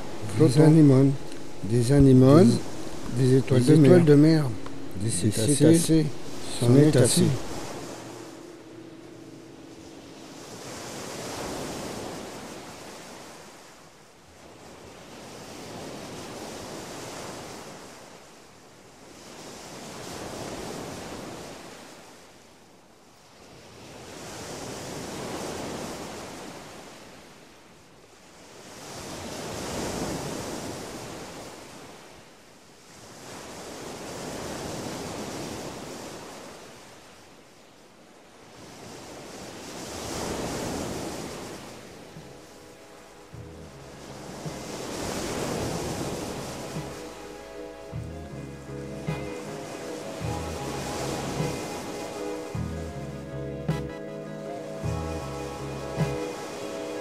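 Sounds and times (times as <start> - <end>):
sea waves washing in: 0.0 - 22.6, 28.3 - 57.0.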